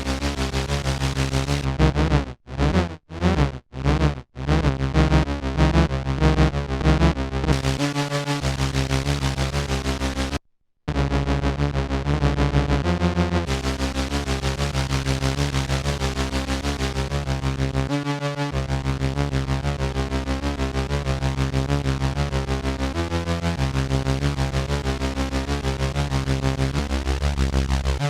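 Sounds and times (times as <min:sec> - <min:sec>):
analogue synthesiser bass line: 0:00.0 - 0:28.0.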